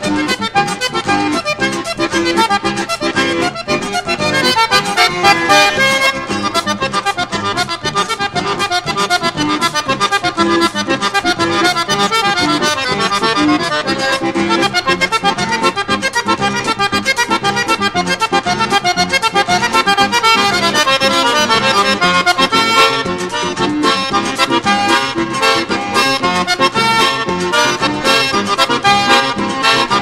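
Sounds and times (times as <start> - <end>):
fast accordion dance tune: 0.0 - 30.0.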